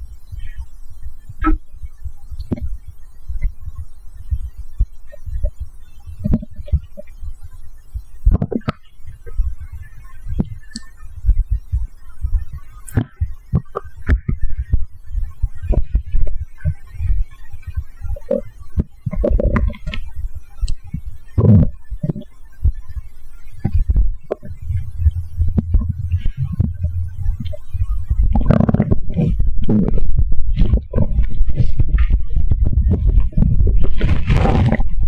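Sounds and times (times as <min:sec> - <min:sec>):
steady low throbbing: 0:00.0 - 0:34.1
stomach gurgling and rumbling: 0:00.0 - 0:35.0.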